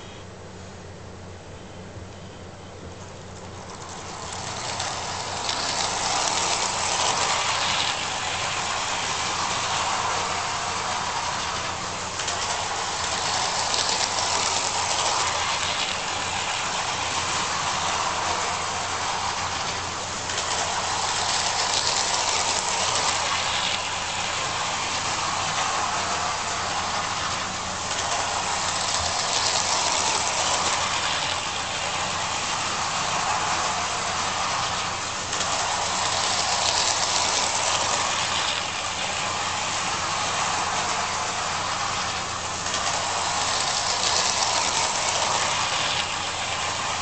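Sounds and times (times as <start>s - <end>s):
toy trolley motor whir and rattle: 3.2s - 47.0s.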